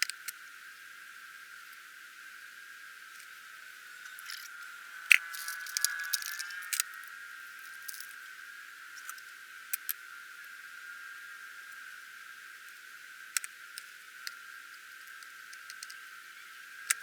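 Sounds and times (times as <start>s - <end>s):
steady high whine: 2.1s - 17.0s.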